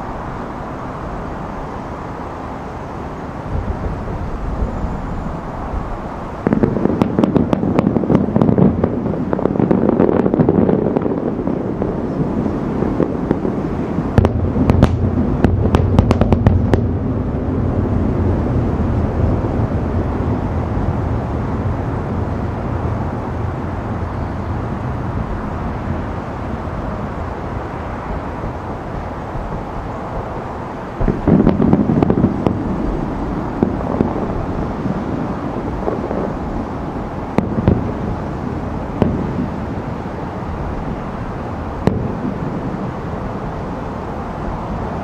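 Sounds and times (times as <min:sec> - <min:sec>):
distant firework bangs and crackles: 0:03.2 - 0:45.0.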